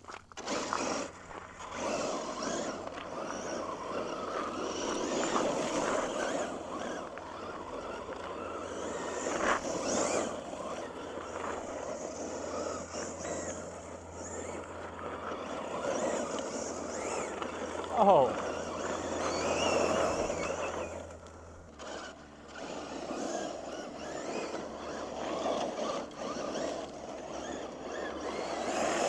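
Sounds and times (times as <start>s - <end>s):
toy truck motor revving: 0.0s - 29.0s
tyres sliding on gravel: 0.0s - 29.0s.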